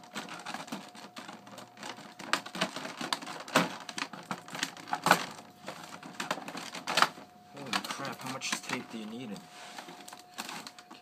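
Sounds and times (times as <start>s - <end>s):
plastic blister pack crackling: 0.0s - 11.0s.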